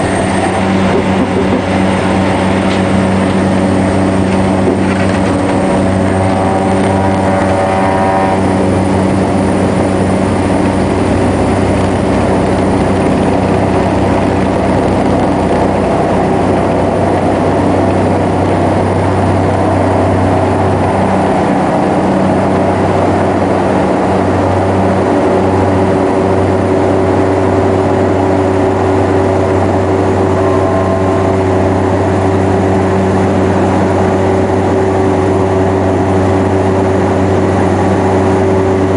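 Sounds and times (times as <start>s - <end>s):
turboprop drone in cabin: 0.0s - 38.9s.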